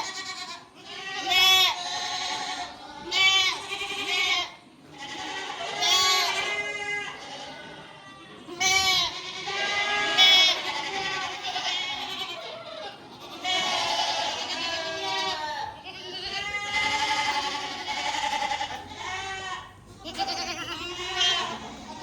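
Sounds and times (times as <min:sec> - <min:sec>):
goats bleating: 0:00.0 - 0:22.0.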